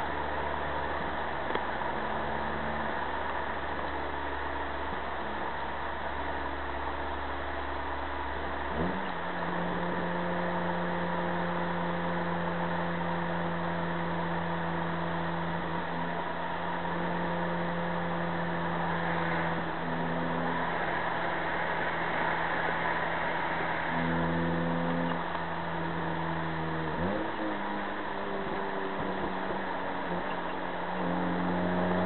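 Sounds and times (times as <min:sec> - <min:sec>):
car engine running: 0:00.0 - 0:32.0
tyre and road noise: 0:00.0 - 0:32.0.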